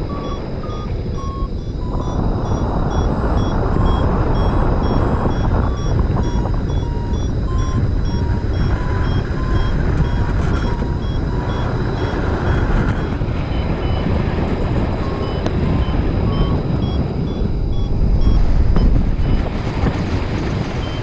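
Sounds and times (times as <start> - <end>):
variometer beeping short tones: 0.0 - 19.5
wind buffeting microphone: 0.0 - 21.0.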